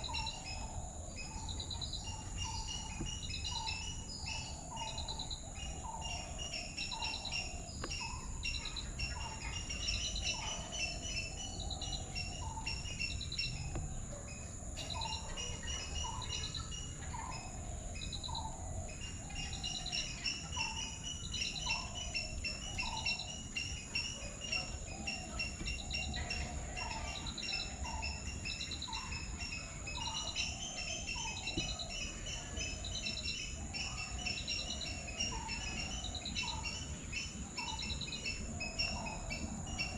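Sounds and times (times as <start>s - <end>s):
birds calling: 0.0s - 39.9s
insects chirping rapidly: 0.0s - 39.9s.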